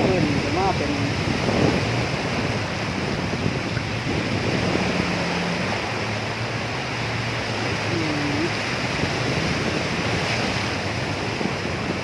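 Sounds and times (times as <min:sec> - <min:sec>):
sea waves washing onto beach: 0:00.0 - 0:12.0
wind on microphone: 0:00.0 - 0:12.0.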